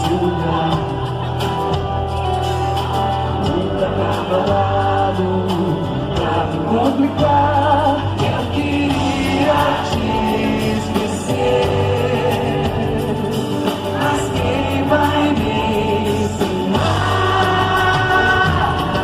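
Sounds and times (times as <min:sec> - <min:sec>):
live band music with singing: 0:00.0 - 0:19.0.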